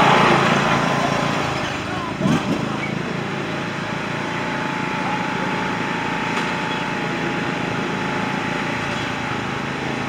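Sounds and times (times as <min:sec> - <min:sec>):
small engine running steadily: 0:00.0 - 0:10.0.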